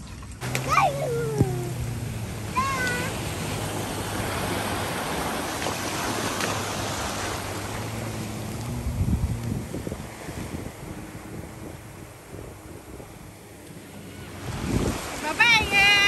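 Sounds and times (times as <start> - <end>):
low motor drone: 0.4 - 16.0
surf washing onto beach: 0.4 - 16.0
wind on microphone: 1.0 - 16.0.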